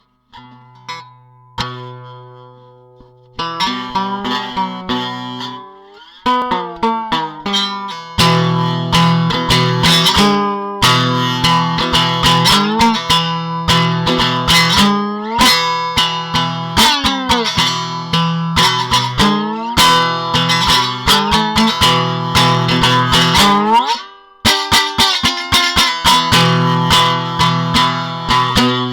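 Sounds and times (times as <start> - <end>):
electric guitar playing: 0.3 - 28.9.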